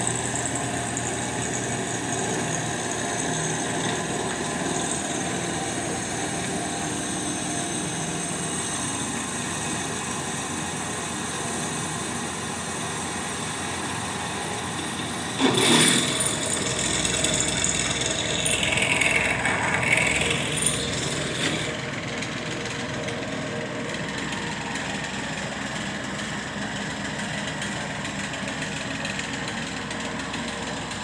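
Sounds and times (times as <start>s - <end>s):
drill press running: 0.0s - 31.0s.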